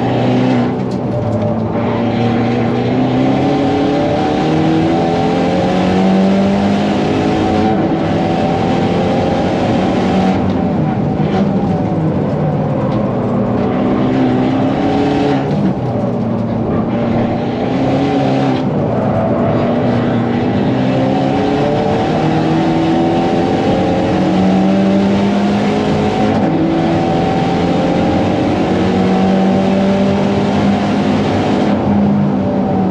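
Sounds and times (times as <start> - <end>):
car engine revving under full throttle: 0.0 - 32.9.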